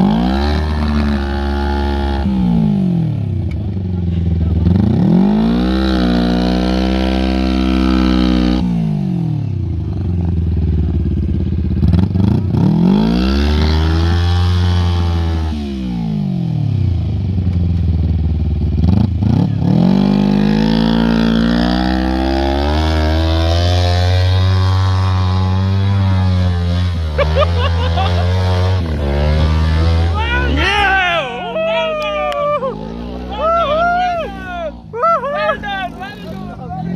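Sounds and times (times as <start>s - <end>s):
go-kart engine revving: 0.0s - 36.9s.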